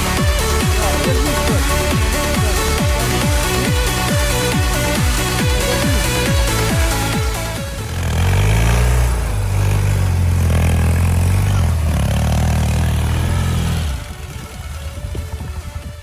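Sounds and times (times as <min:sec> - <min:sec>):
motorcycle engine running hard: 0:00.0 - 0:16.0.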